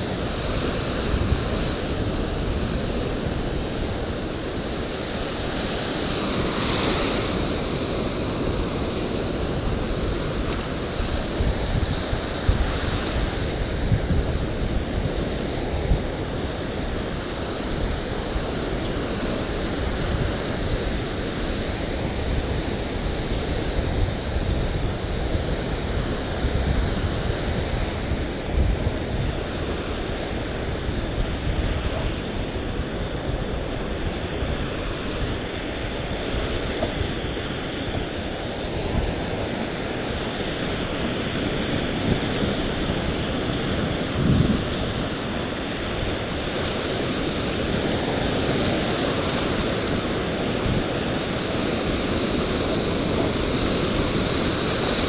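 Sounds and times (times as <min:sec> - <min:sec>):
surf washing up shore: 0:00.0 - 0:55.0
wind rumble on microphone: 0:00.0 - 0:55.0.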